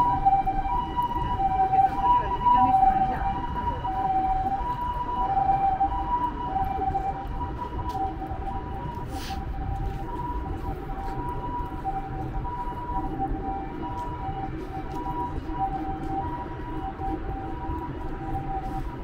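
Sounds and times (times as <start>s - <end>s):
ambulance siren two-tone: 0.0s - 19.0s
city traffic rumble: 0.0s - 19.0s.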